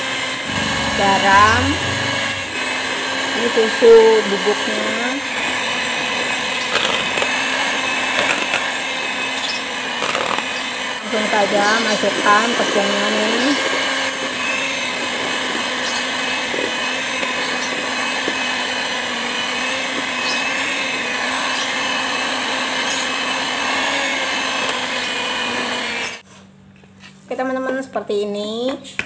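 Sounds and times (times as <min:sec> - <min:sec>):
electric hand mixer running: 0:00.0 - 0:26.2.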